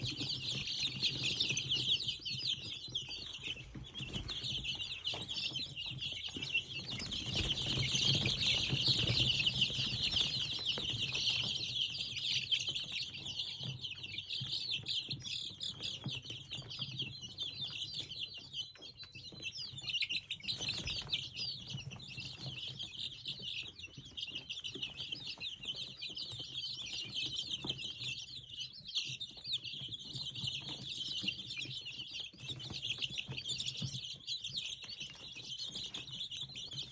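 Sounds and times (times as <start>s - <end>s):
chicks peeping: 0.0s - 36.9s.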